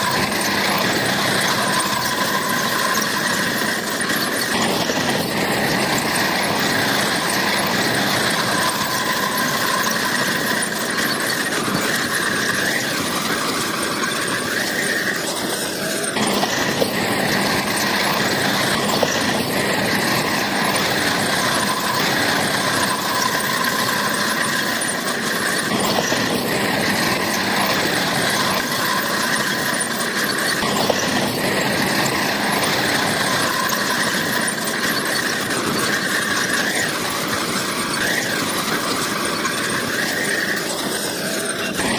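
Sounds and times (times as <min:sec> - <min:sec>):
diesel engine running: 0:00.0 - 0:41.9
high squeal from tracks: 0:00.0 - 0:41.9.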